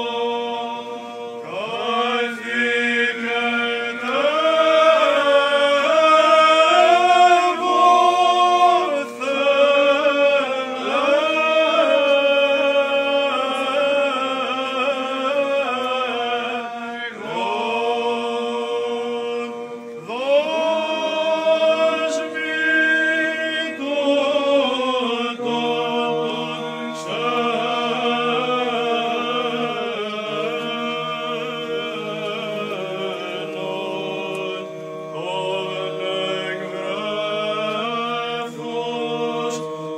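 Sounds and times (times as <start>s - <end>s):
men chanting a cappella: 0.0s - 39.9s.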